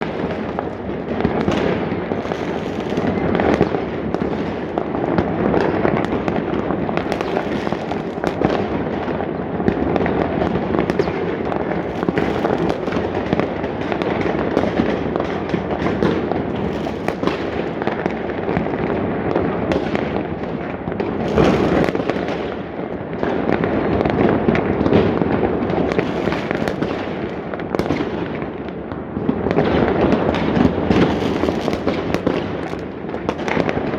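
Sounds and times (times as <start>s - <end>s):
fireworks and firecrackers crackling: 0.0s - 33.9s.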